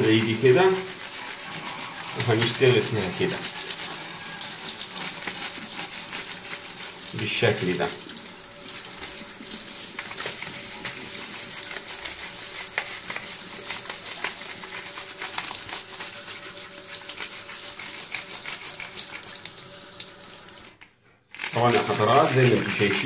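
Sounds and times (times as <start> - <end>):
toothbrush scrubbing keys: 0.0 - 7.7, 9.9 - 19.5, 21.3 - 23.0
running tap water: 0.0 - 23.0.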